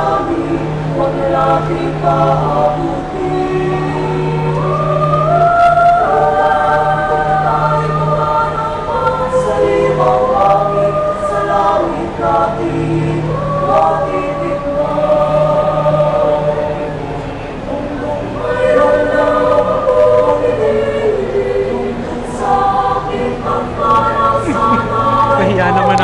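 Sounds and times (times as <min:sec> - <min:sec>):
mixed choir singing chords: 0:00.0 - 0:26.0.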